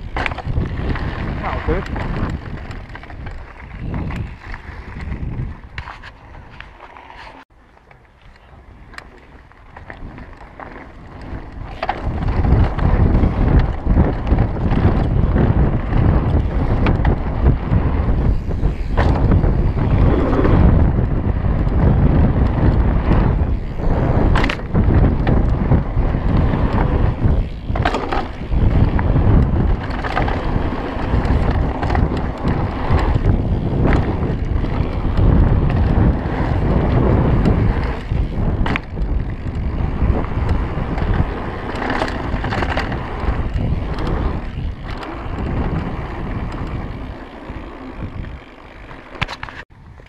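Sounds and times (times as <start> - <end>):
wind buffeting microphone: 0.0 - 6.8, 8.5 - 50.0
tyres rolling over dirt and gravel: 0.0 - 8.1, 8.8 - 49.6
bike clacking and rattling: 0.0 - 50.0.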